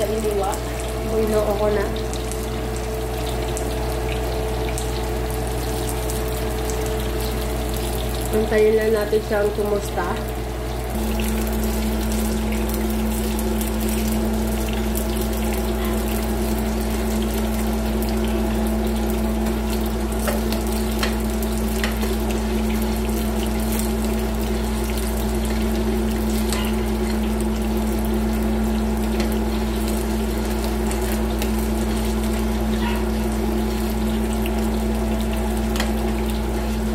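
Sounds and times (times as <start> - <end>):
meat frying with crackles and pops: 0.0 - 36.9
steady droning hum: 0.0 - 36.9.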